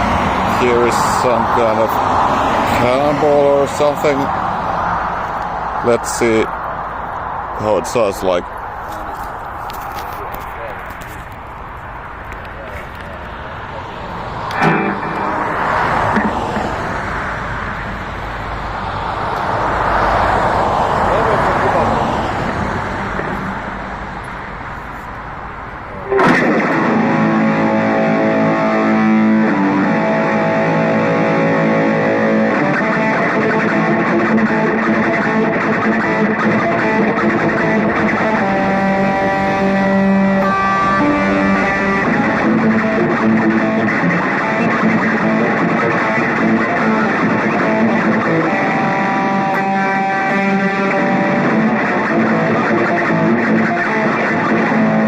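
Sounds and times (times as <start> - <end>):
distorted electric guitar chords: 0.0 - 8.2, 14.2 - 20.0, 21.4 - 55.0
road traffic hum: 0.0 - 55.0.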